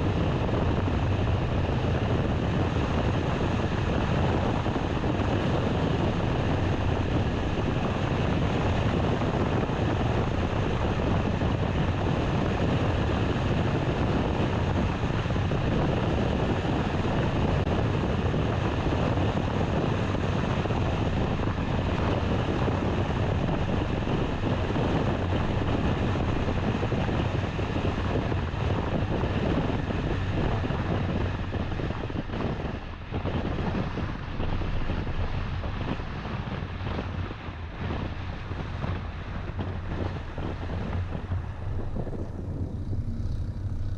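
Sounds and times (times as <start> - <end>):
road and engine noise: 0.0 - 43.9.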